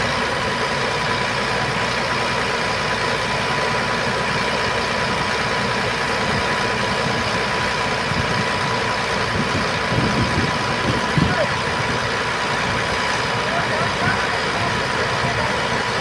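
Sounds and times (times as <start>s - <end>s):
thin steady whine: 0.0s - 16.0s
truck engine idling: 0.0s - 16.0s.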